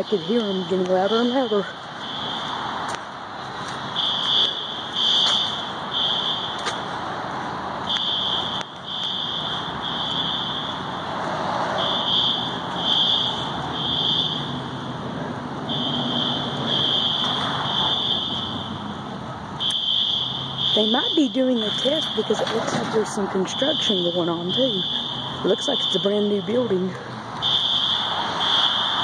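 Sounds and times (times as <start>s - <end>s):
fire alarm horns beeping: 0.0s - 2.7s, 3.9s - 6.9s, 7.8s - 10.9s, 11.8s - 14.5s, 15.7s - 18.8s, 19.6s - 26.8s, 27.4s - 29.0s.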